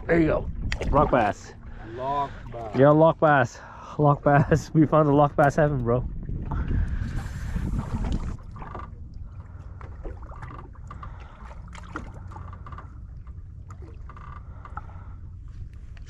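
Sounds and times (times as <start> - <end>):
water lapping against boat: 0.0 - 16.0
wind: 0.0 - 16.0.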